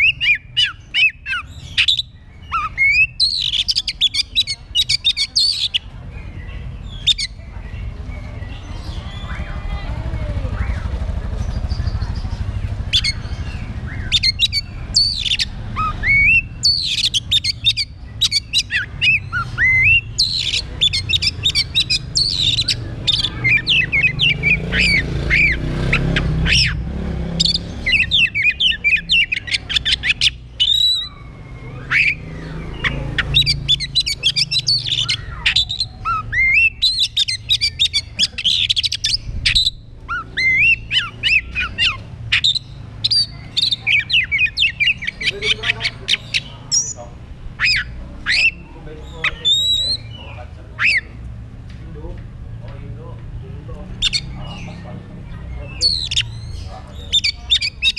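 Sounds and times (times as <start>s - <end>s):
bird singing: 0.0s - 57.9s.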